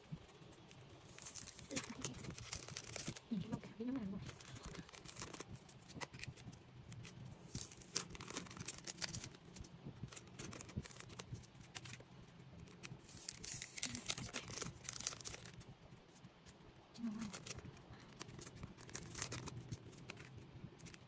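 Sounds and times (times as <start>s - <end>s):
wrappers crinkling and tearing: 0.7s - 12.0s, 12.6s - 15.7s, 17.0s - 21.0s.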